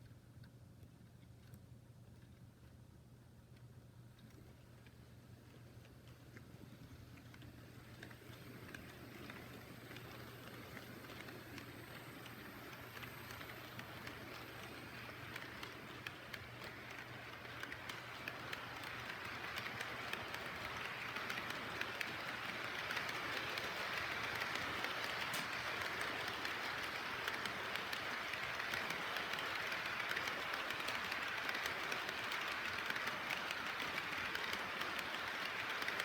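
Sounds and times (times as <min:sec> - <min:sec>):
model train rolling on track: 0:04.3 - 0:36.0.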